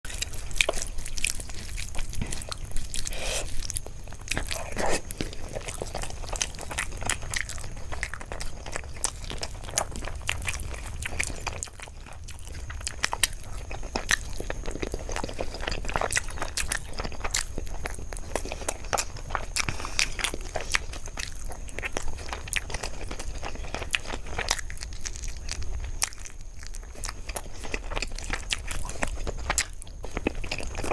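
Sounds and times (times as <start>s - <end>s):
soft food crunches: 0.1s - 30.9s
wet chewing and lip smacks: 0.1s - 30.9s.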